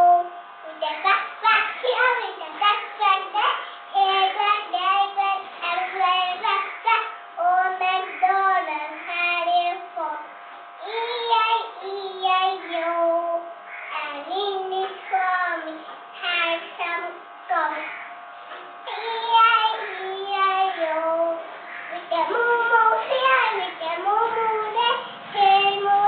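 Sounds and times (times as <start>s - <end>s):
girl singing: 0.0s - 18.0s, 18.9s - 26.0s.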